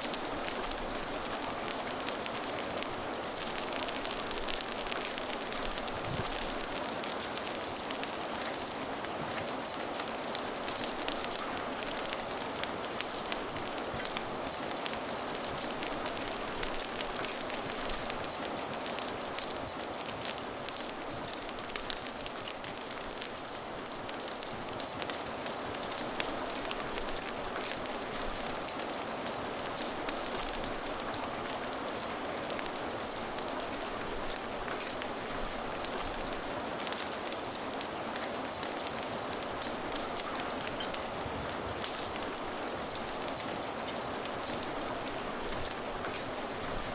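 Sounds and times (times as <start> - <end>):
fire crackling and popping: 0.0 - 46.9
rain hissing: 0.0 - 46.9.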